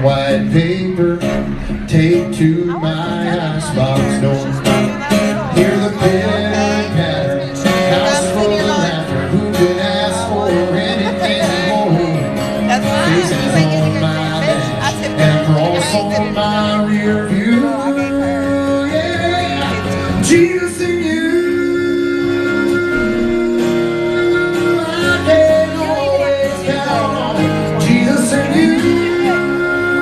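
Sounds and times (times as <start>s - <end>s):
man singing through pa: 0.0s - 4.6s, 5.4s - 30.0s
guitar accompaniment: 0.0s - 30.0s.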